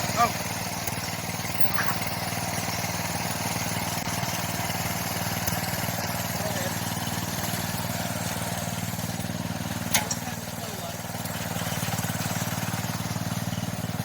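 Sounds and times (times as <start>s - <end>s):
garden tractor engine running: 0.0s - 14.0s.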